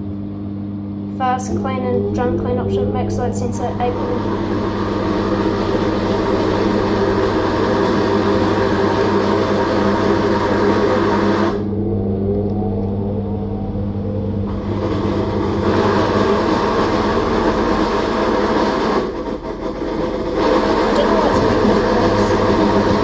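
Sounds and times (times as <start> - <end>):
washing machine motor humming: 0.0 - 23.0.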